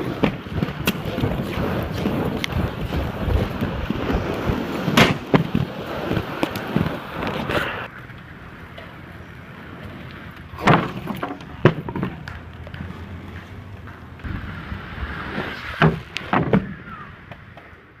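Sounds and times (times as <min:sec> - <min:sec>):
skate wheels rolling on wet pavement: 0:00.0 - 0:18.0.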